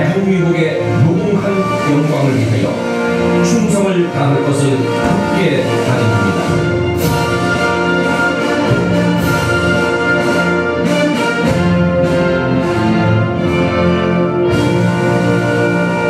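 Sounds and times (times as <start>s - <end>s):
orchestral music with brass: 0.0s - 16.0s.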